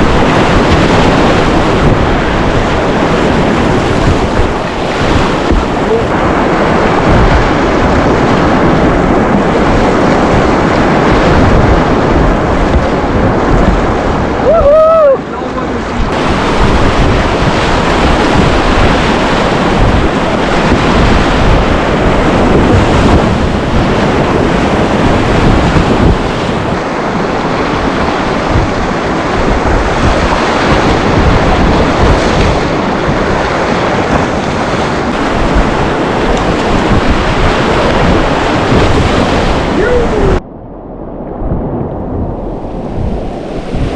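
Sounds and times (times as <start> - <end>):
whitewater rapids rushing: 0.0 - 40.4
wind buffeting microphone: 0.0 - 43.9.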